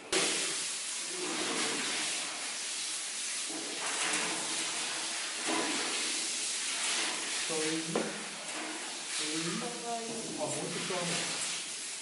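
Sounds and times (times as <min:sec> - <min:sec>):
water spraying with steady hiss: 0:00.0 - 0:12.0.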